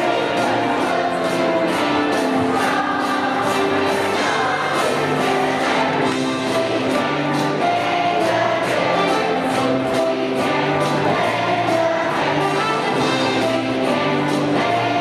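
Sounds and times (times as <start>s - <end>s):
children singing: 0.0s - 15.0s
music with steady beat: 0.0s - 15.0s.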